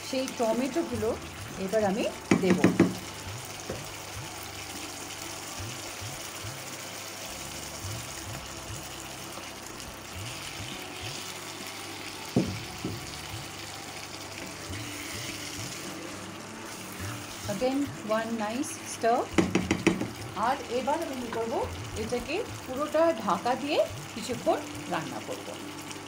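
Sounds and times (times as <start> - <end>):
masala sizzling in frying pan: 0.0 - 26.0
soft background music: 0.0 - 26.0.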